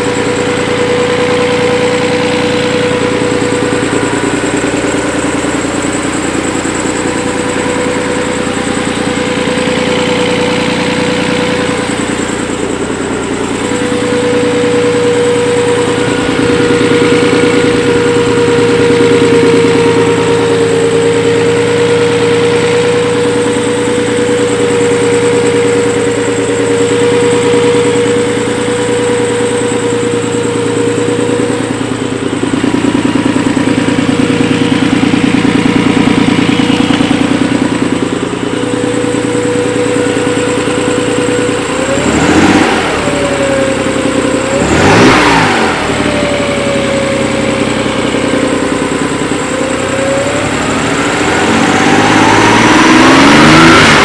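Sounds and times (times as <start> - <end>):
car engine idling: 0.0 - 54.0
engine revving: 0.0 - 54.0
high-pitched whine: 0.0 - 54.0.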